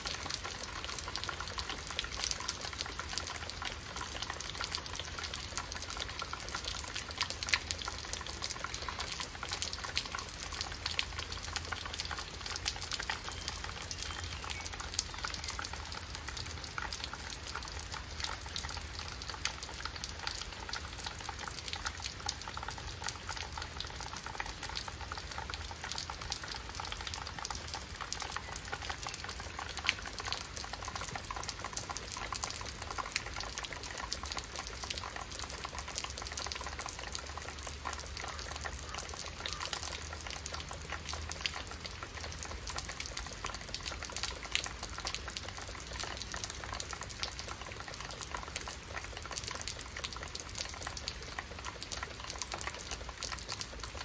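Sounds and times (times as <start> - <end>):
rain on leaves and rock: 0.0 - 54.0.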